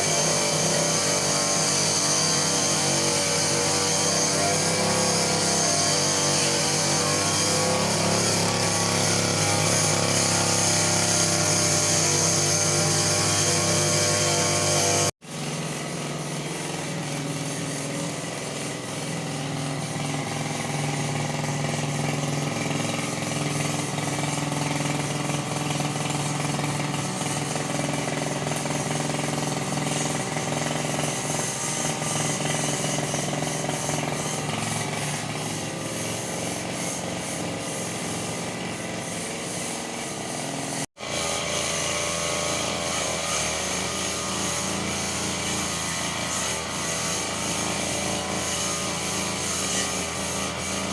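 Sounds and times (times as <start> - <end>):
brush cutter engine running: 0.0 - 50.9.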